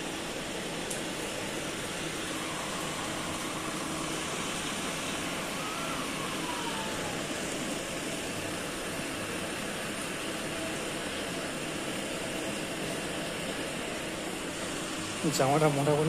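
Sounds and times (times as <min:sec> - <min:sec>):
air cooler fan blowing: 0:00.0 - 0:16.0.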